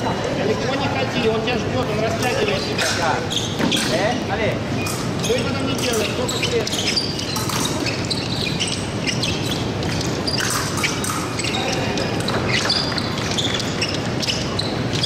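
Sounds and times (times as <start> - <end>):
crowd and room noise: 0.0 - 15.0
shoes squeaking: 0.0 - 15.0.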